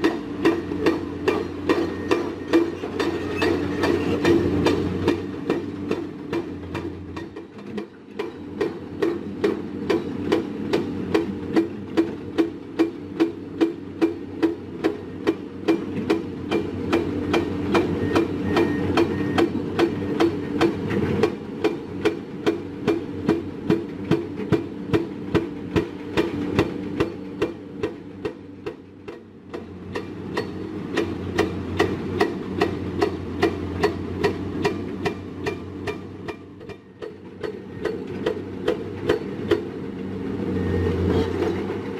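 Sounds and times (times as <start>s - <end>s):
heavy machinery engine drone: 0.0s - 41.9s.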